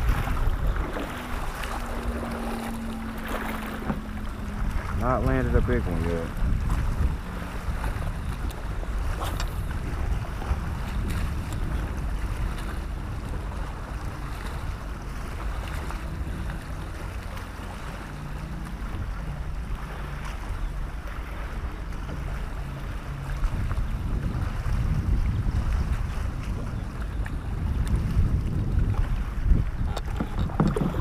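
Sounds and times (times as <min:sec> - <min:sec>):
water lapping against kayak hull: 0:00.0 - 0:31.0
wind noise on microphone: 0:00.0 - 0:31.0.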